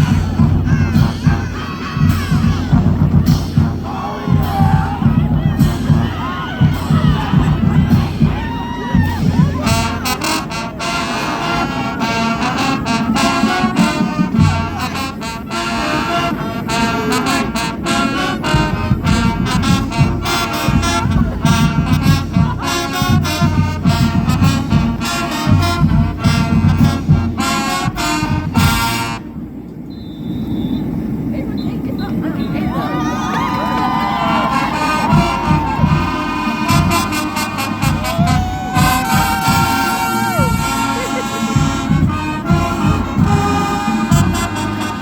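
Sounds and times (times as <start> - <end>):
brass band playing: 0.0 - 29.6, 32.5 - 45.0
crowd voices and shouts: 0.0 - 29.8, 30.8 - 45.0.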